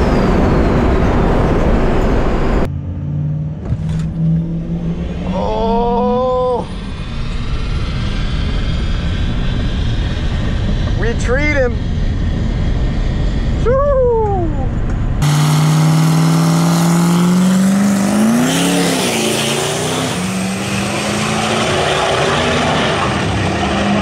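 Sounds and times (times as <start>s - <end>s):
diesel truck engine accelerating: 0.0s - 24.0s
low car rumble: 0.0s - 24.0s.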